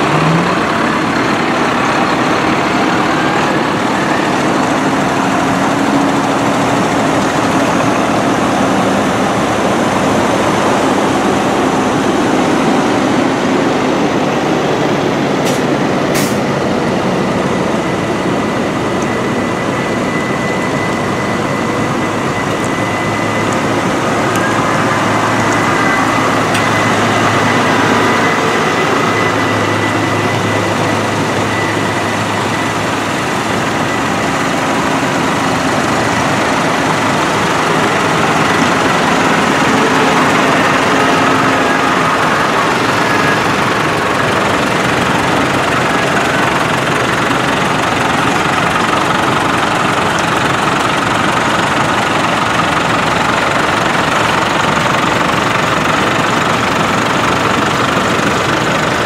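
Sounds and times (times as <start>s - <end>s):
tractor diesel engines passing: 0.0s - 59.0s.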